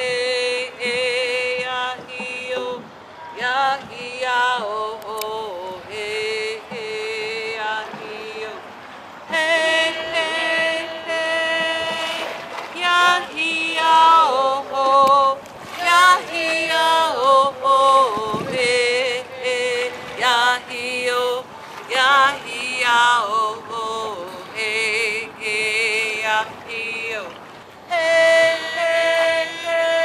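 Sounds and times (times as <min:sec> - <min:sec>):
woman singing a solo chant: 0:00.0 - 0:08.7, 0:09.3 - 0:30.0.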